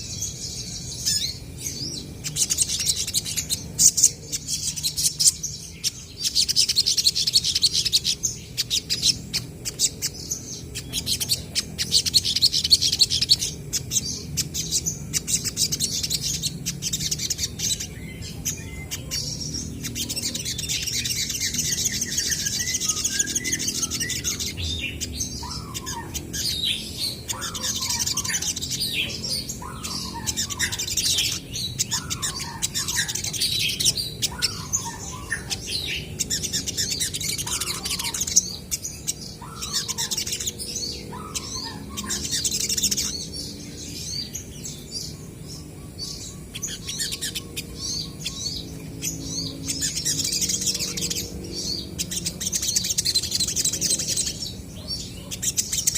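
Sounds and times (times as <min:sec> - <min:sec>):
sunbirds chirping and twittering: 0:00.0 - 0:55.9.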